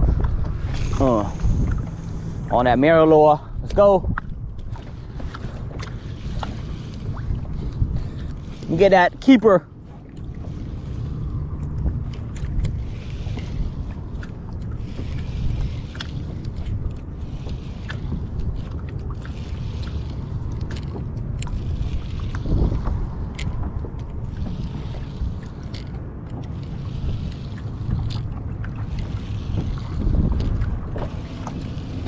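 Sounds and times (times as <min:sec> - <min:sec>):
water lapping at hull: 0:00.0 - 0:32.0
wind buffeting microphone: 0:00.0 - 0:32.0.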